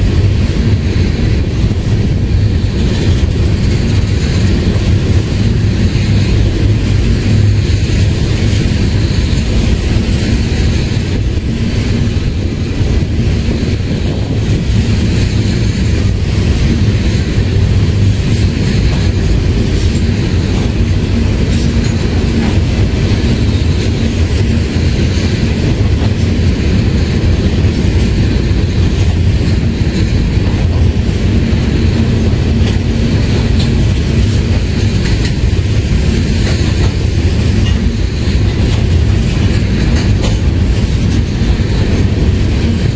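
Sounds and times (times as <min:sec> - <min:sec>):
train wheels rumbling on rails: 0:00.0 - 0:42.9
wheels clicking over rail joints: 0:00.0 - 0:42.9.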